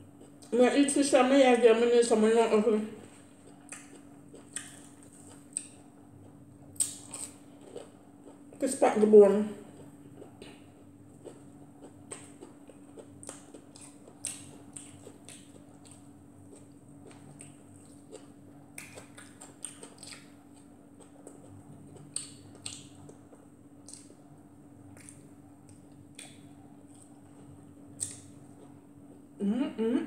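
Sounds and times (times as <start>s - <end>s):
faint steady hum: 0.0s - 30.0s
chewing and lip smacks: 3.0s - 8.6s, 9.7s - 28.8s.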